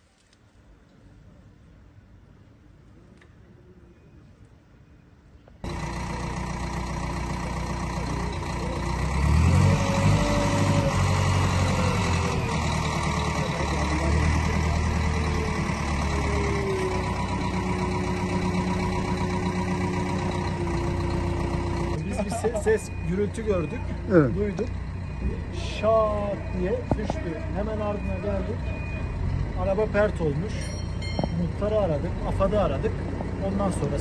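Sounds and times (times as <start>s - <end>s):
diesel engine under load: 5.6s - 34.0s.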